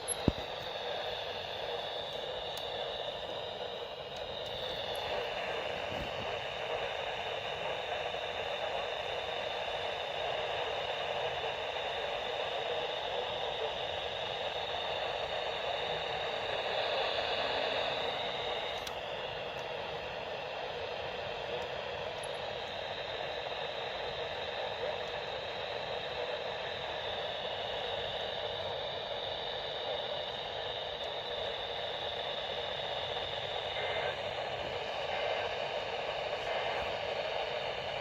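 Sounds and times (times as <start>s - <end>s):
radio static hissing: 0.0s - 38.0s.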